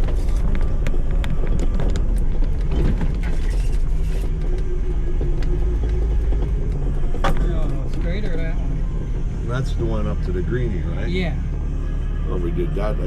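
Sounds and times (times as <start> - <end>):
off-road vehicle engine running: 0.0 - 13.0
vehicle rattling over bumps: 0.0 - 13.0.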